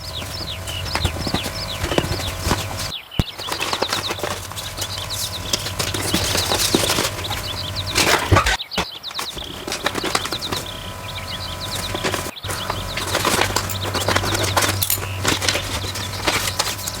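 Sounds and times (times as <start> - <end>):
paper jaws clacking: 0.0 - 17.0.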